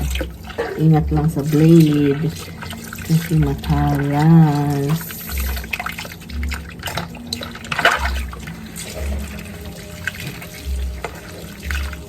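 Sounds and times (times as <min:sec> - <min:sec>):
tap water running in sink: 0:00.0 - 0:12.0.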